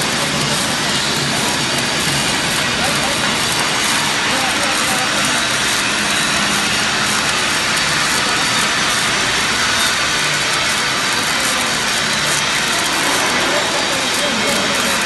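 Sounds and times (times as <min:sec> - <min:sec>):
welding arc hissing: 0:00.0 - 0:15.0.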